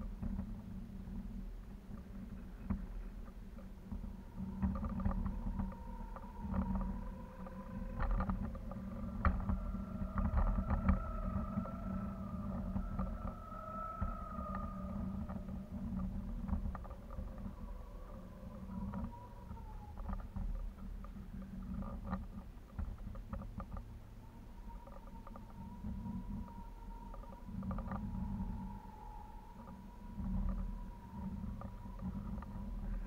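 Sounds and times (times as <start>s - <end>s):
wind buffeting microphone: 0.0s - 33.0s
faint wavering tone: 3.8s - 22.2s, 24.0s - 33.0s.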